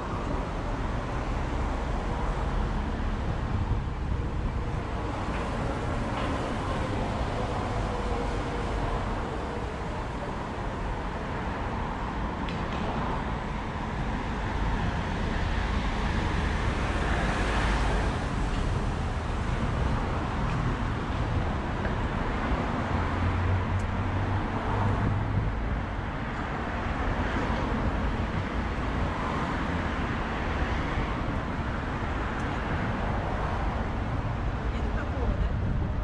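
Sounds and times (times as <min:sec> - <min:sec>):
passing cars rumble: 0:00.0 - 0:36.0.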